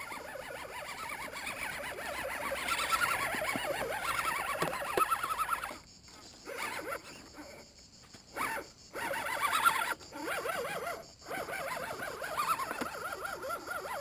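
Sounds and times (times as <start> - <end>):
rc car motor whine: 0.0 - 14.0.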